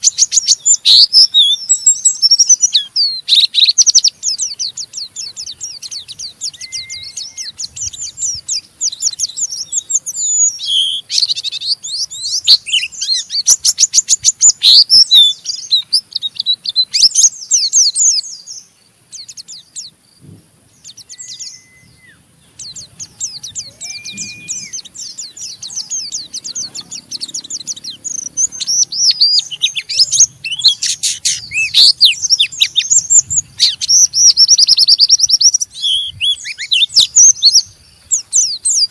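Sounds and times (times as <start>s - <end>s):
birds chattering: 0.0s - 38.9s.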